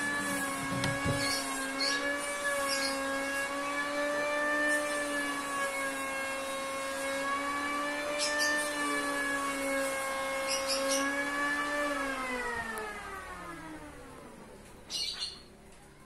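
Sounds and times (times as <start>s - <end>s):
motor whining: 0.0s - 14.8s.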